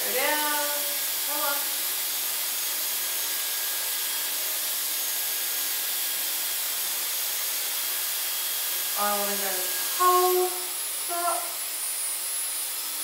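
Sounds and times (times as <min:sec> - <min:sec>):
hair styler blowing hot air: 0:00.0 - 0:13.0.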